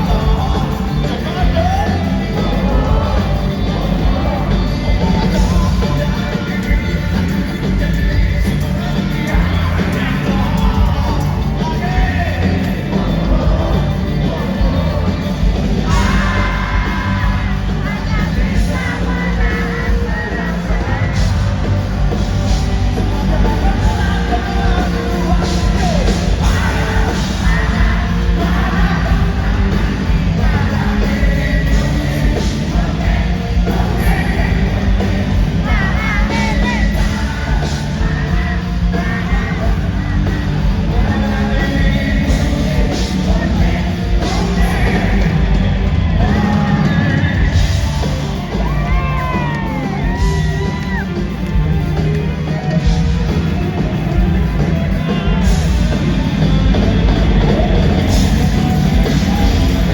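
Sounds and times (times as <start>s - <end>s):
crowd yelling: 0.0s - 59.9s
lead singer singing: 0.0s - 59.9s
pop-rock band playing loudly: 0.0s - 59.9s.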